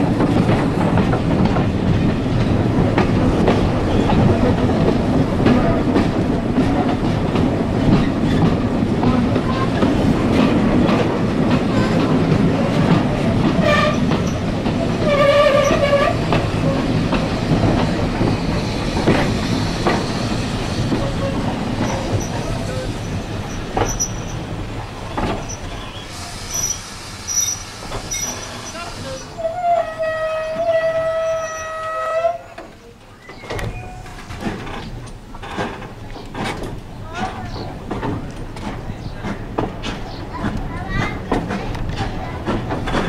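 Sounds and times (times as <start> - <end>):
train rumbling: 0.0 - 43.0
wheels clacking over rail joints: 0.0 - 43.0.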